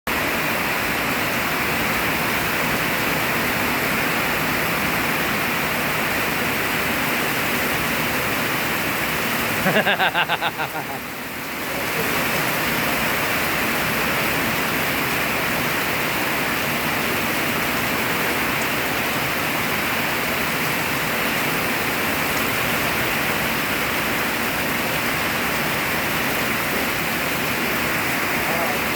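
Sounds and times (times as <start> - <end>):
heavy rain falling: 0.1 - 28.9.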